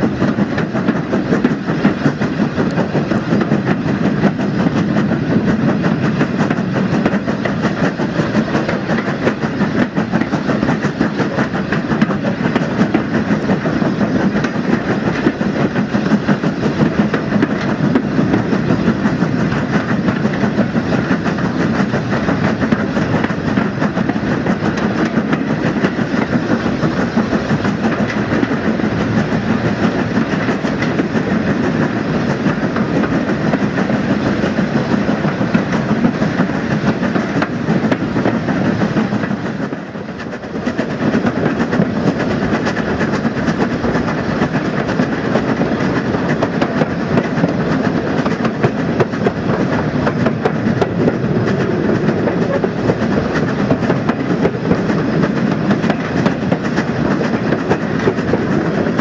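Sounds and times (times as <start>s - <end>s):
train wheels rattling on rails: 0.0s - 59.0s.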